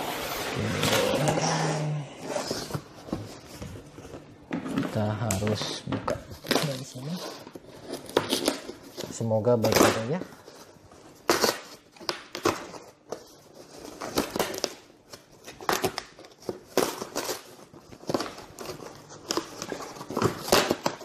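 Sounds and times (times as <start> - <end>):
cardboard tearing: 0.0 - 3.5, 6.4 - 10.6, 11.2 - 21.0.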